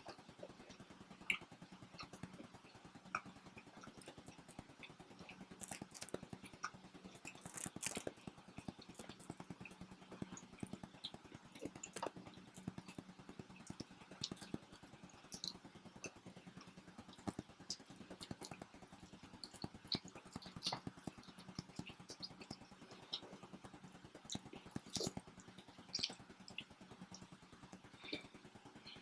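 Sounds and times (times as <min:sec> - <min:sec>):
faint steady hum: 0:00.0 - 0:29.0
people chewing food: 0:00.0 - 0:29.0.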